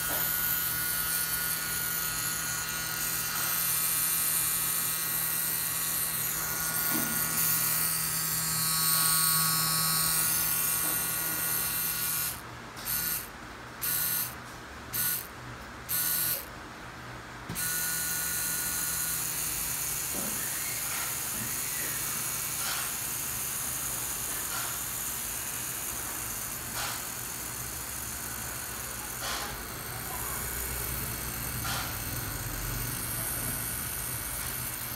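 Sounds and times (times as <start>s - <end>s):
tattoo pen buzzing: 0.0s - 15.3s, 15.9s - 16.5s, 17.5s - 34.9s.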